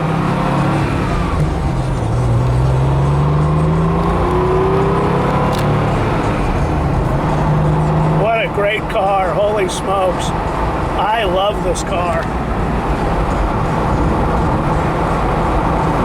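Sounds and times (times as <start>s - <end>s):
car engine accelerating: 0.0s - 16.0s
road noise: 0.0s - 16.0s.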